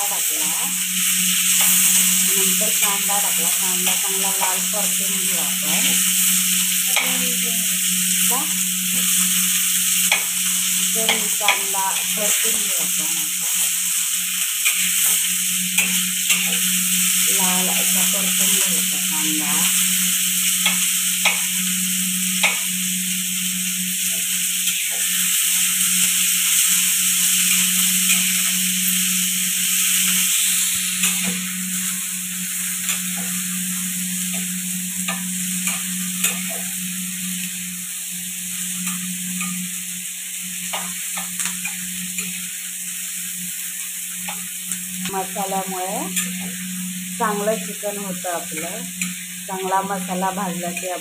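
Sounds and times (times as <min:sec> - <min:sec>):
low hum: 0:00.0 - 0:42.4, 0:44.2 - 0:51.0
onions sizzling on a pan: 0:00.0 - 0:51.0.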